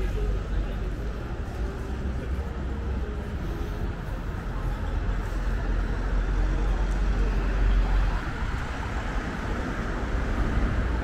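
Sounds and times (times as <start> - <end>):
cars passing on road: 0.0 - 11.0.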